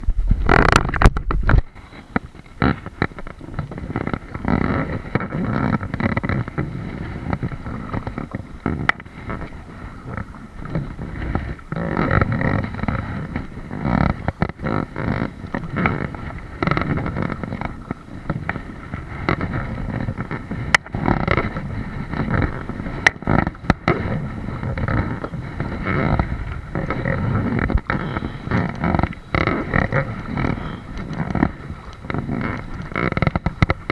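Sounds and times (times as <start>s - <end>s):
paddle and water against hull: 0.0s - 33.9s.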